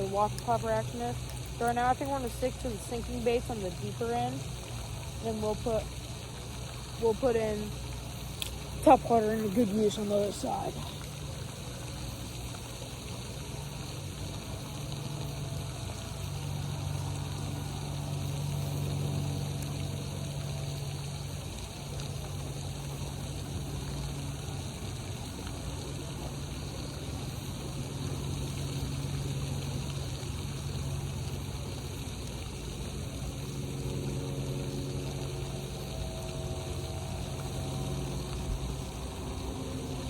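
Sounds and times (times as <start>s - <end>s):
pump humming: 0.0s - 40.0s
splashing water: 0.0s - 40.0s.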